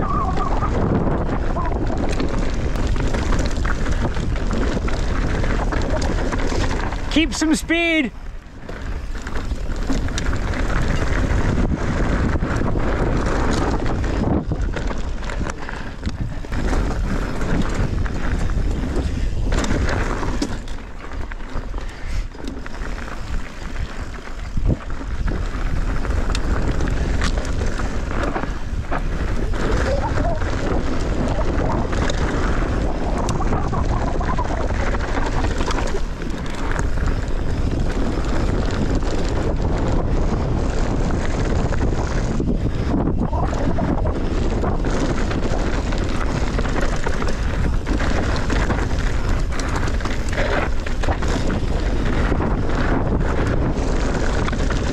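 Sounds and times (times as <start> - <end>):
bike knocking and rattling: 0.0 - 54.9
wind rushing over microphone: 0.0 - 54.9.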